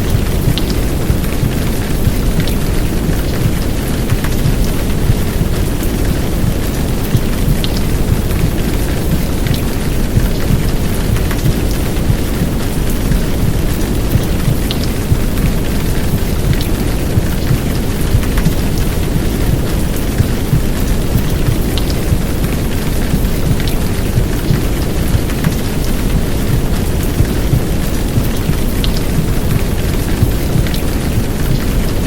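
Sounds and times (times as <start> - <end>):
heavy rain hissing: 0.0 - 32.0
raindrops ticking: 0.0 - 32.0.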